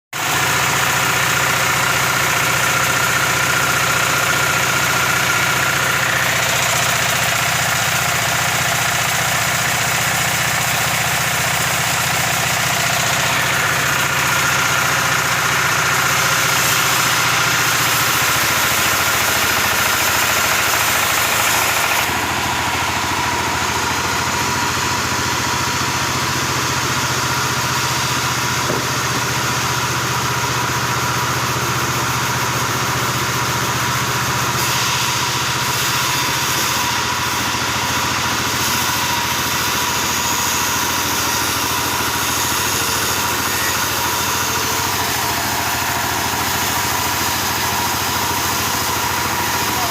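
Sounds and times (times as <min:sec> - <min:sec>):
circular saw blade whine: 0:00.2 - 0:49.9.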